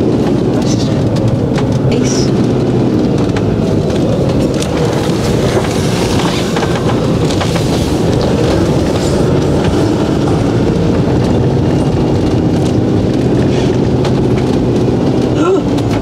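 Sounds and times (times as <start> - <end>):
engine drone: 0.0 - 16.0
road rumble: 0.0 - 16.0
small clicks and rattles: 0.0 - 16.0.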